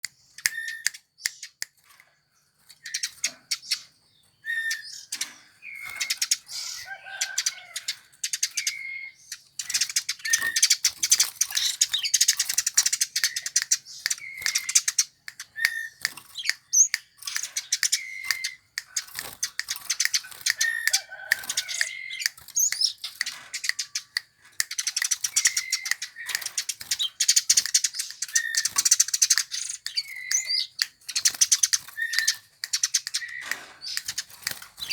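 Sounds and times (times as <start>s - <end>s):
sparrow chirping rapidly: 2.8s - 34.9s.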